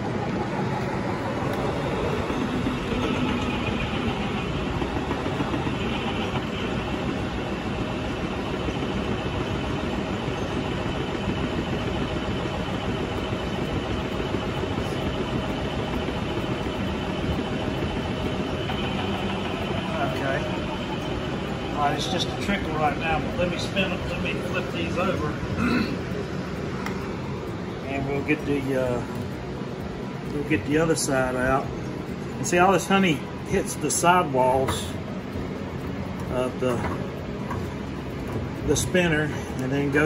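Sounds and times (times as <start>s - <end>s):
honey extractor running: 0.0s - 40.0s.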